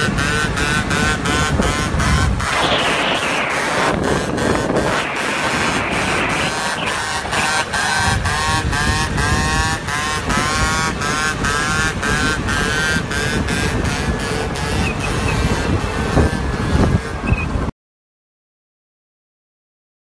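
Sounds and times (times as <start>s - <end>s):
scooter engine revving high: 0.0s - 17.7s
wind rumble: 0.0s - 17.7s.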